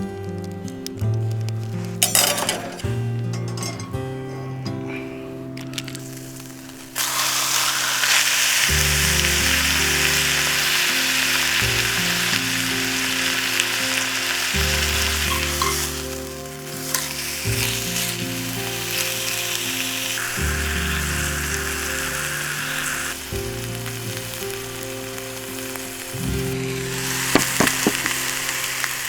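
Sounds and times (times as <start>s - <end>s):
food sizzling in a hot pan: 5.4s - 29.0s.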